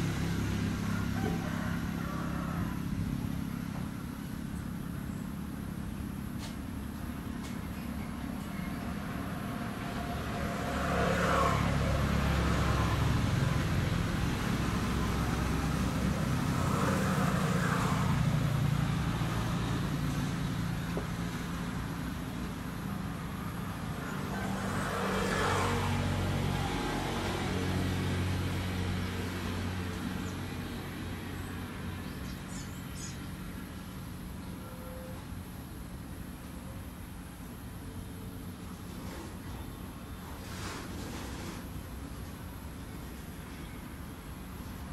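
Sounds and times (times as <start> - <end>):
vehicles passing: 0.0 - 44.9.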